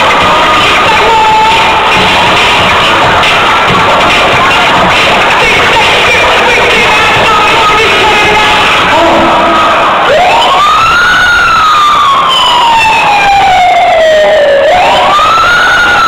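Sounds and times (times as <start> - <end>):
siren wail in dance track: 0.0 - 16.0.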